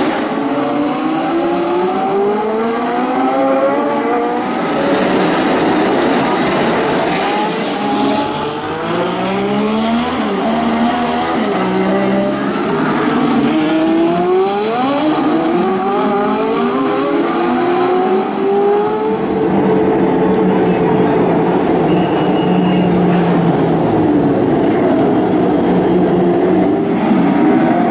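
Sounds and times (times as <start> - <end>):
racing car engines passing: 0.0 - 27.9.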